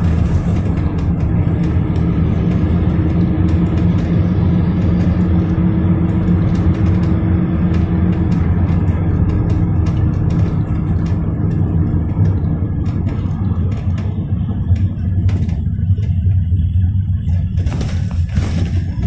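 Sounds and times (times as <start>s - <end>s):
engine low drone: 0.0s - 19.0s
road noise: 0.0s - 19.0s.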